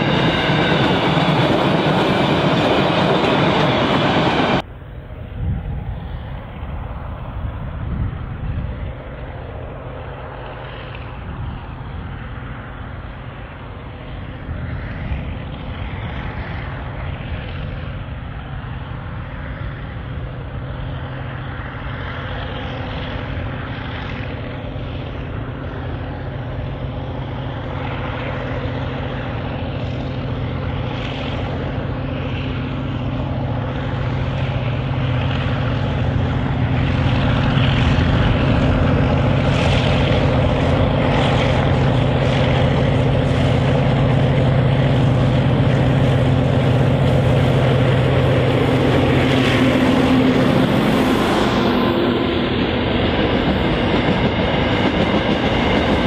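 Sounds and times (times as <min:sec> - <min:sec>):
locomotive engines droning: 0:00.0 - 0:56.0.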